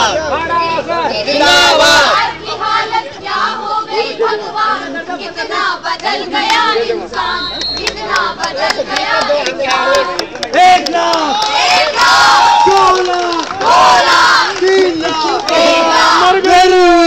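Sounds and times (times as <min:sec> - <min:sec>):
young voices singing together: 0:01.0 - 0:10.3, 0:11.3 - 0:12.6, 0:13.6 - 0:17.0.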